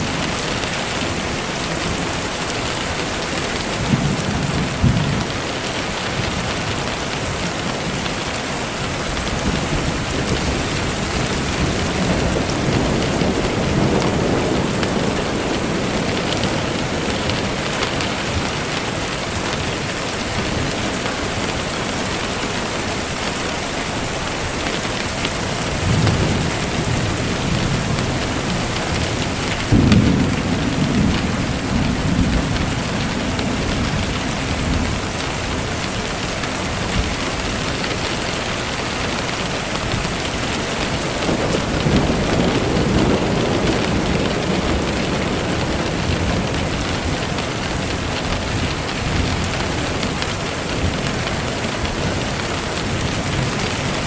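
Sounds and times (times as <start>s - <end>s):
rolling thunder: 0.0s - 22.2s, 25.1s - 38.5s, 39.2s - 54.0s
steady rain: 0.0s - 54.0s.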